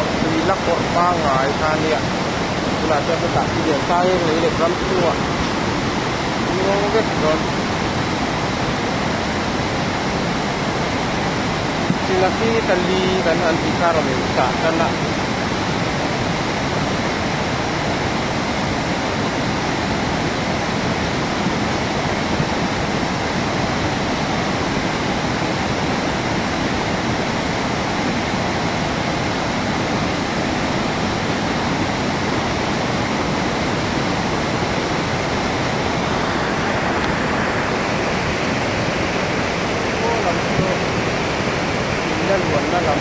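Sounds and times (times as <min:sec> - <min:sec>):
river water roaring: 0:00.0 - 0:43.0.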